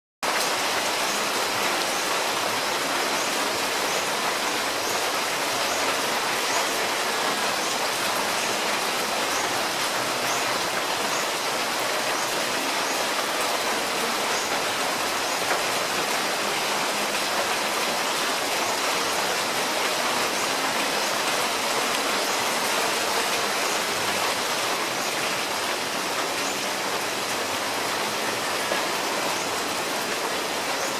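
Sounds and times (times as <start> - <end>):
steady rain hiss: 0.2 - 30.9.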